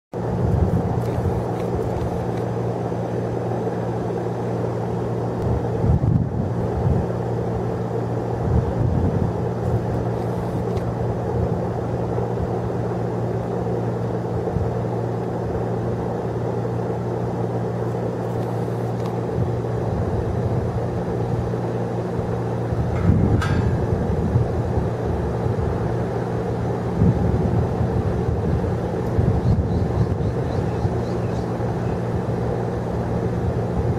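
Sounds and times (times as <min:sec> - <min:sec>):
low mechanical hum: 0:00.1 - 0:33.9.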